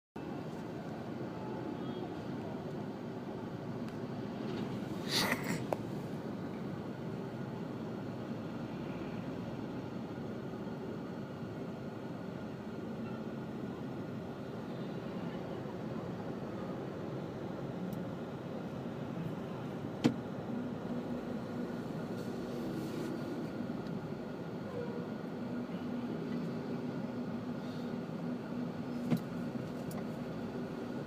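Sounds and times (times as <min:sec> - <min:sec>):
low traffic hum: 0:00.2 - 0:31.0.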